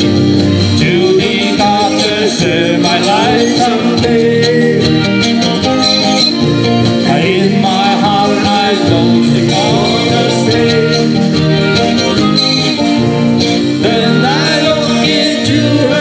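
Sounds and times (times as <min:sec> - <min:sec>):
electric guitars: 0:00.0 - 0:16.0
harmonica melody: 0:00.0 - 0:16.0.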